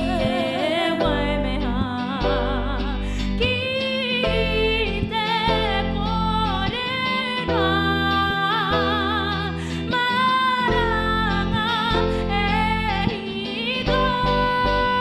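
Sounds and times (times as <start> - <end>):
electric bass: 0.0 - 15.0
electric guitar: 0.0 - 15.0
keyboard: 0.0 - 15.0
woman singing with vibrato: 0.0 - 15.0.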